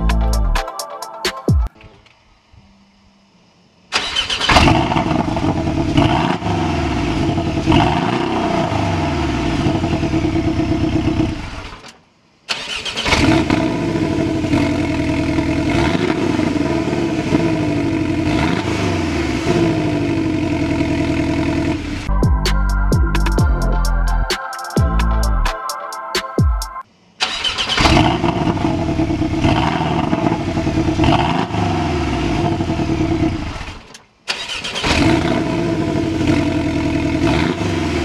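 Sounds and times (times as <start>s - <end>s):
car engine starting and idling: 3.6s - 24.3s, 27.0s - 38.0s.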